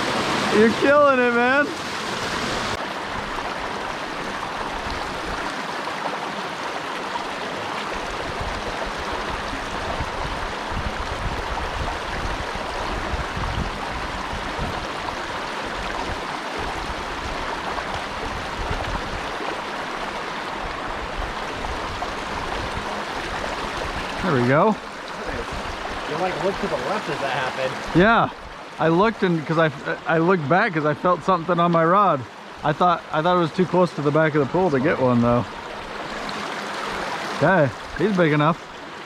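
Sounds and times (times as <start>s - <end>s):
stream water rushing: 0.0s - 39.0s.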